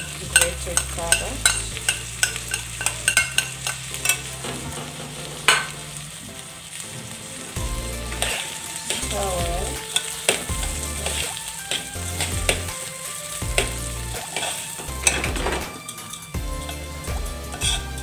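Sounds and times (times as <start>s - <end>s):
rice grains rustling: 1.6s - 16.1s.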